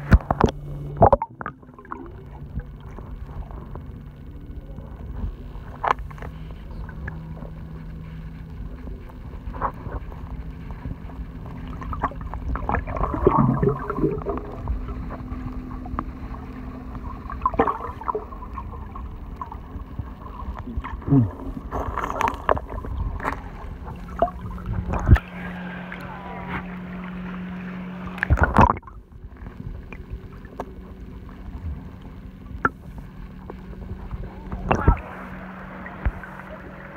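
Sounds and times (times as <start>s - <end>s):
underwater knocks and clicks: 0.0s - 25.3s, 28.0s - 35.3s
low underwater hum: 0.0s - 36.9s
water gurgles: 0.0s - 36.9s.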